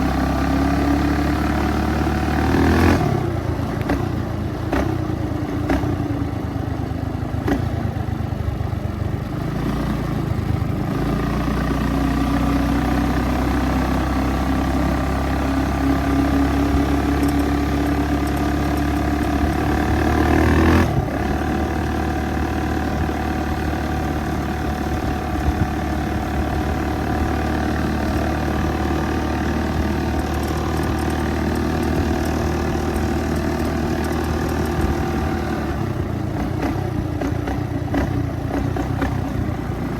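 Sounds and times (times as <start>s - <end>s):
small engine accelerating: 0.0s - 5.0s, 9.4s - 39.9s.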